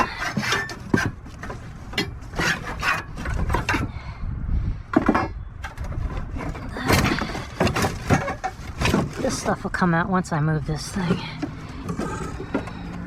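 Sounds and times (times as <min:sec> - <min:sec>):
wood scraping and knocking: 0:00.0 - 0:04.0, 0:04.9 - 0:10.1, 0:10.8 - 0:13.0.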